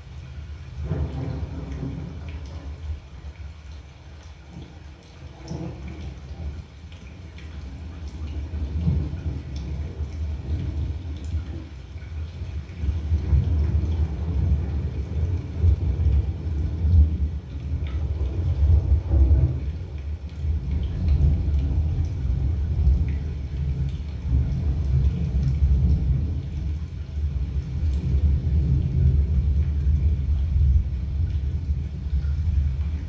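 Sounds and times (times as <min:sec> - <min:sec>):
faint rain patter: 0:00.0 - 0:33.0
thunder rumble: 0:00.6 - 0:03.4, 0:04.5 - 0:06.7, 0:07.6 - 0:33.0.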